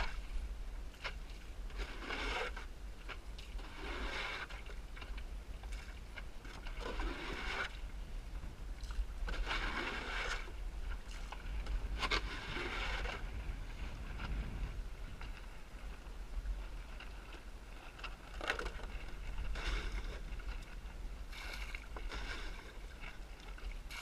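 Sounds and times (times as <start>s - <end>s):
water splashing along boat hull: 0.0s - 24.0s
wind rumble on microphone: 0.0s - 24.0s.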